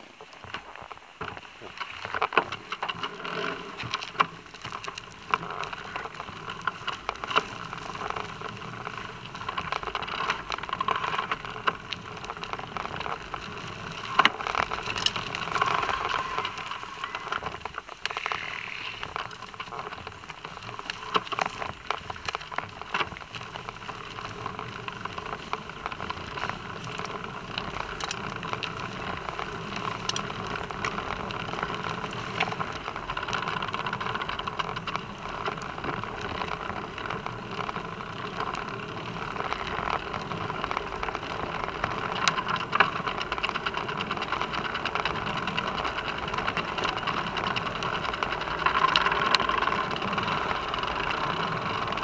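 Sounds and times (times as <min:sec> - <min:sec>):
bicycle rattling on paved path: 0:00.0 - 0:52.0
bike clicks and knocks: 0:00.3 - 0:18.4, 0:19.1 - 0:52.0.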